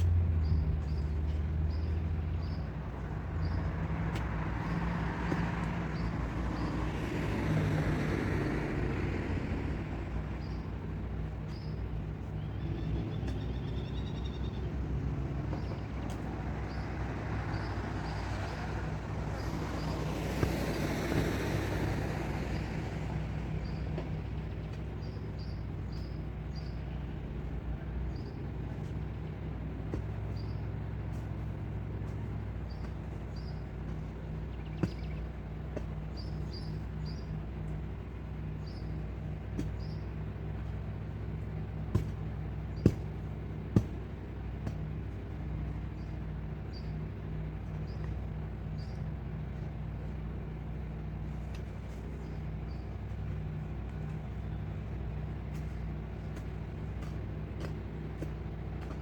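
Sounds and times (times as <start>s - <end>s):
passing traffic: 0.0s - 59.0s
vehicle engine idling: 0.0s - 59.0s.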